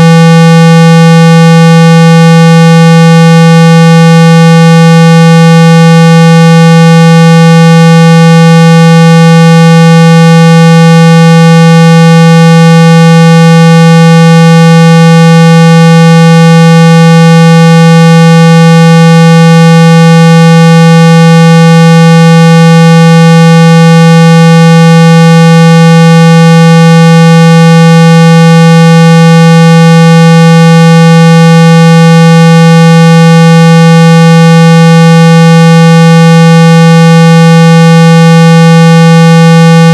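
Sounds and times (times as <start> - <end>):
loud buzzy test tone: 0.0 - 39.9.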